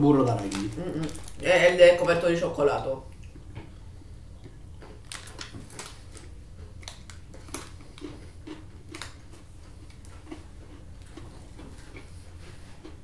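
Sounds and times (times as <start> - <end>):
steady low hum: 0.0 - 13.0
chewing crackles: 0.3 - 2.2, 3.0 - 13.0.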